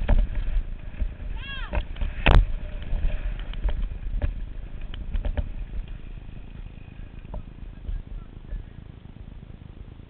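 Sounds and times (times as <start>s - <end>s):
mountain bike rattling over dirt: 0.0s - 9.7s
wind rumble on microphone: 0.0s - 10.0s.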